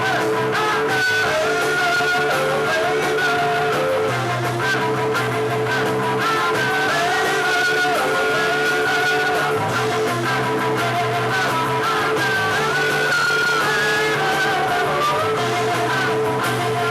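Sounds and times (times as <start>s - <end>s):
live rock band playing: 0.0s - 16.9s.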